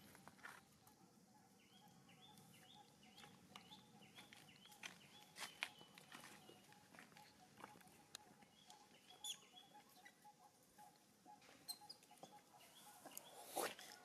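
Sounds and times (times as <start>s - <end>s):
faint ticks and rustles: 0.0s - 1.1s, 2.2s - 14.0s.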